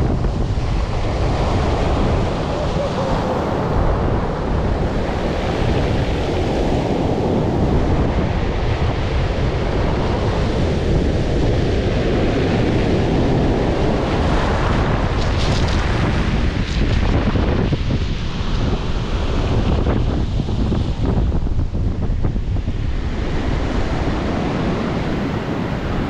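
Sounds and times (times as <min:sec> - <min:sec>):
surf washing up a pebble beach: 0:00.0 - 0:21.4
wind buffeting the microphone: 0:00.0 - 0:26.0.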